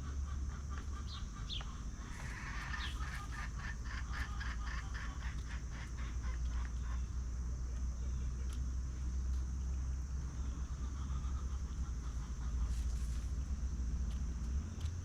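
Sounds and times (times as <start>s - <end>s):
chickens clucking: 0.0s - 8.6s, 9.4s - 15.0s.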